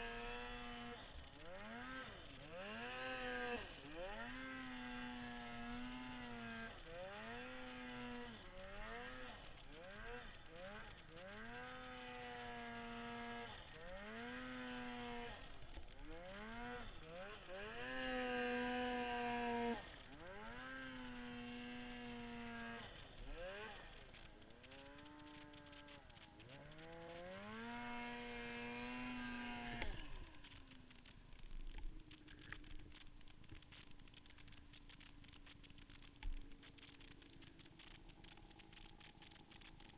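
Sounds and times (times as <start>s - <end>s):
engine idling: 0.0s - 39.9s
snowmobile engine revving: 0.0s - 39.9s.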